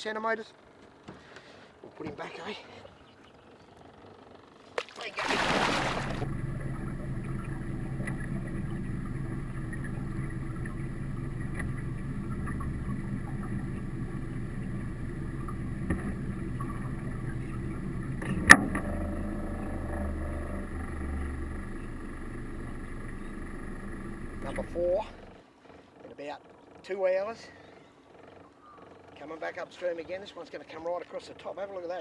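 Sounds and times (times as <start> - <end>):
boat motor humming: 0.0 - 32.0.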